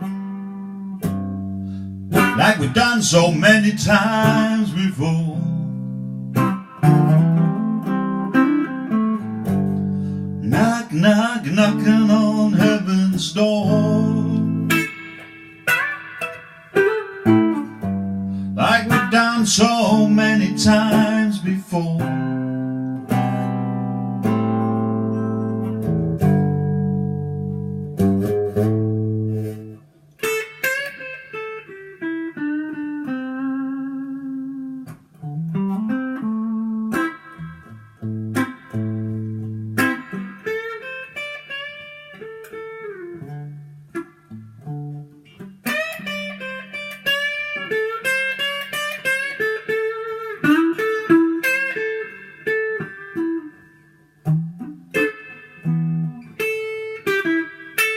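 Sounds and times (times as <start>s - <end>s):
electric guitar playing: 0.0s - 57.9s.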